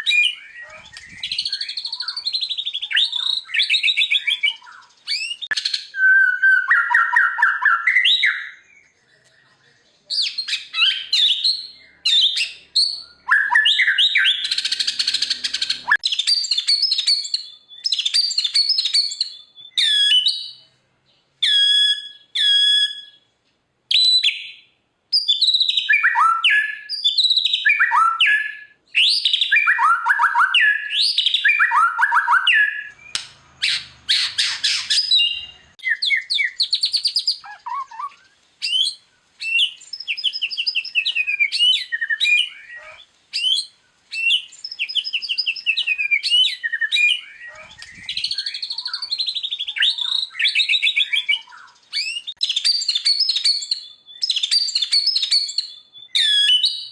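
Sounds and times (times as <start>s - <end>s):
bird singing whistles and trills: 0.0s - 9.5s, 10.1s - 20.6s, 21.4s - 23.3s, 23.9s - 56.9s.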